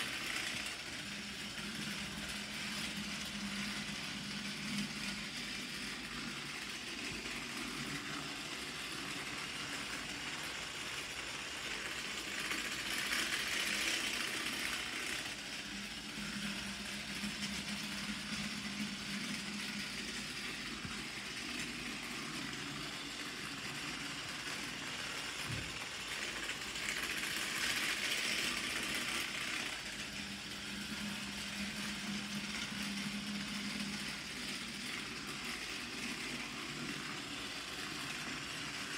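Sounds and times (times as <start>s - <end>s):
toy train motor whirring: 0.0s - 38.9s
wheels rattling over plastic track: 0.0s - 38.9s.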